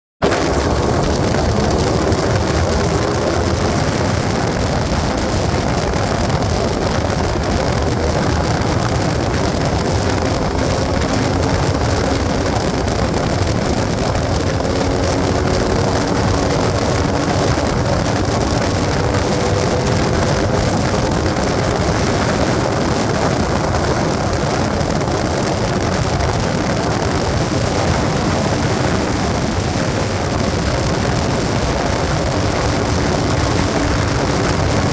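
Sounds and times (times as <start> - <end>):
loud rushing noise: 0.2 - 34.9
vehicle engine humming: 0.2 - 34.9.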